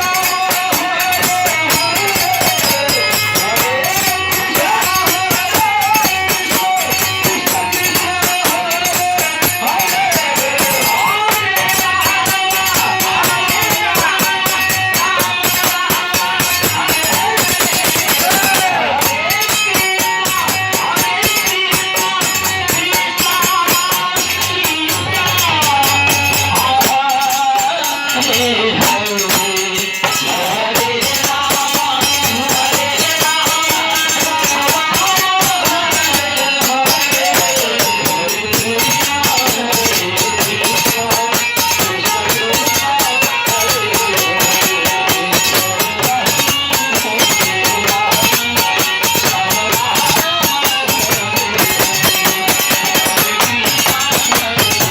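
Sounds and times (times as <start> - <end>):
devotional singing: 0.0 - 54.9
jingling hand percussion: 0.0 - 54.9.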